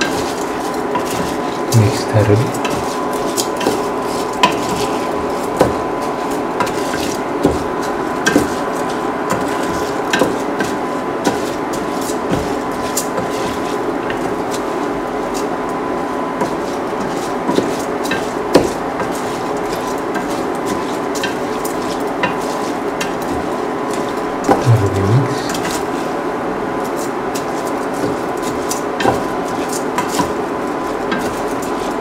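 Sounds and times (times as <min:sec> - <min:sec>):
frying sizzle: 0:00.0 - 0:32.0.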